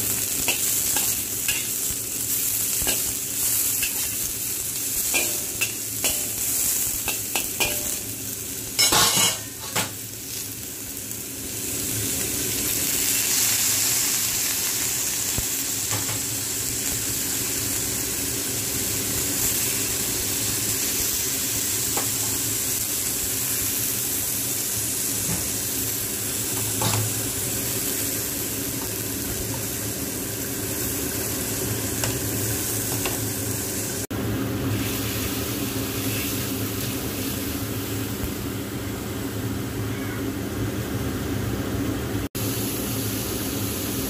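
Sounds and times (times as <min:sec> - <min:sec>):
peppers sizzling in a wok: 0:00.0 - 0:44.0.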